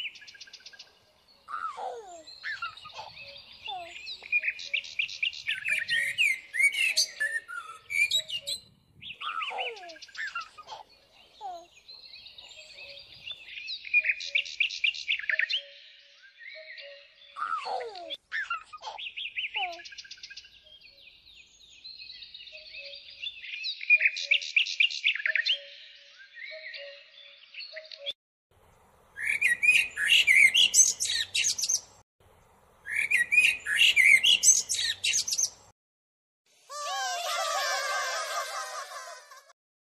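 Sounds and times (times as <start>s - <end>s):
birds chirping and trilling: 0.0s - 32.0s, 32.8s - 35.7s.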